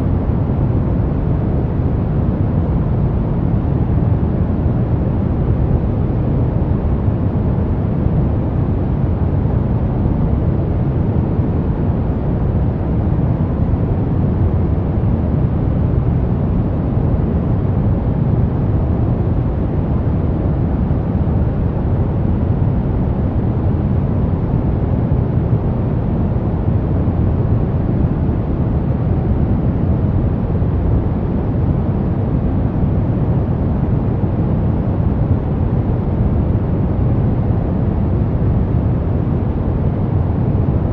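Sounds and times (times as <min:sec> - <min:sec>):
deep even brown noise hiss: 0:00.0 - 0:40.9.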